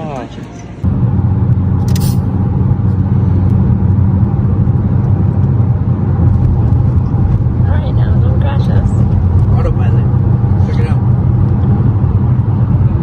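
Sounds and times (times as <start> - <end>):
car rumble from inside cabin: 0.8 - 13.0.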